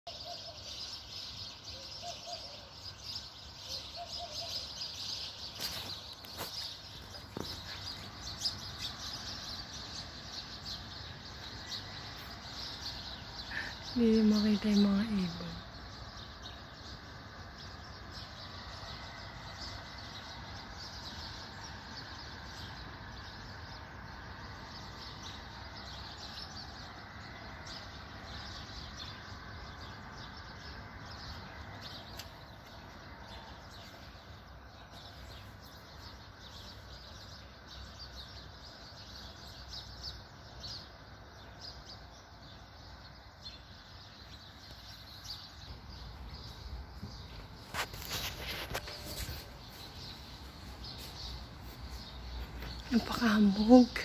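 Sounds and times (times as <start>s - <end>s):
birds chirping and calling: 0.1s - 54.0s.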